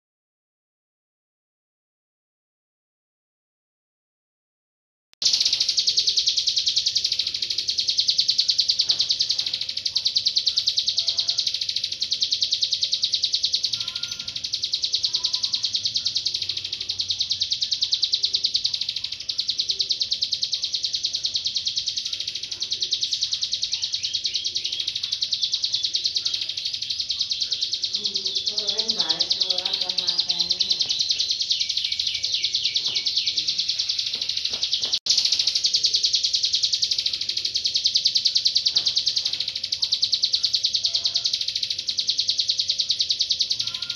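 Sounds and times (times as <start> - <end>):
bird high-pitched chattering trill: 5.2 - 43.9.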